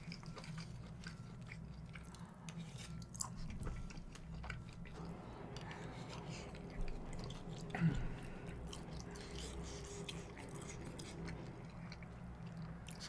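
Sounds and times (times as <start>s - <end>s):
chewing with wet mouth sounds: 0.0s - 13.0s.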